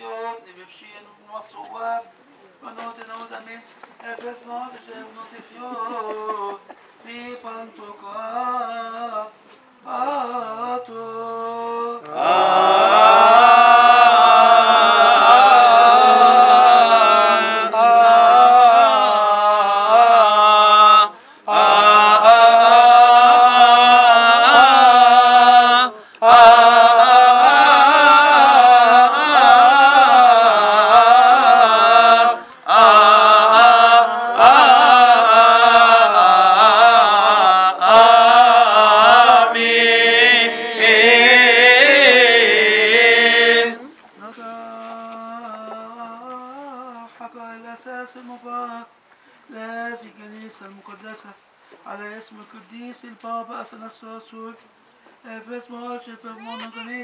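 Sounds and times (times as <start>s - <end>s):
man chanting a hymn: 0.0s - 48.9s.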